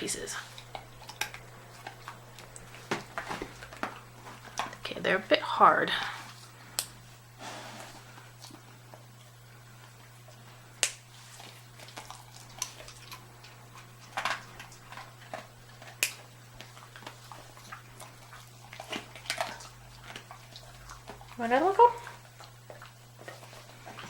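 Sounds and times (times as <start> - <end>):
dog chews cracking: 0.0 - 5.0, 8.1 - 24.0
low steady hum: 0.0 - 24.0.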